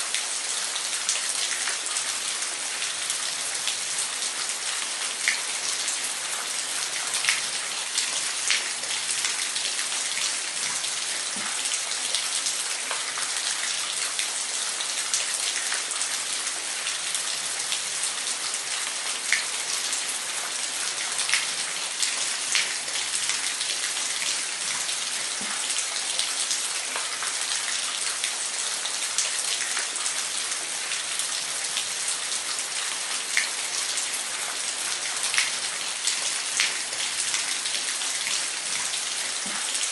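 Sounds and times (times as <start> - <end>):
water drips and splashes: 0.0 - 39.9.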